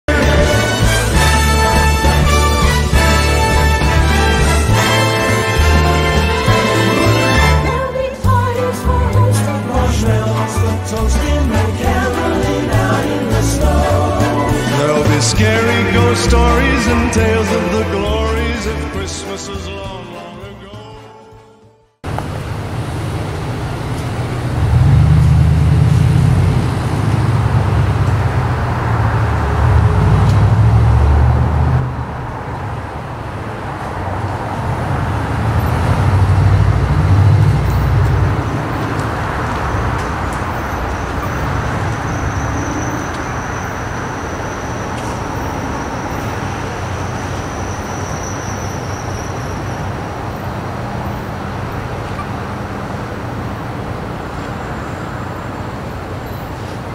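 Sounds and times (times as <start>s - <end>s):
road traffic rumble: 0.0s - 56.9s.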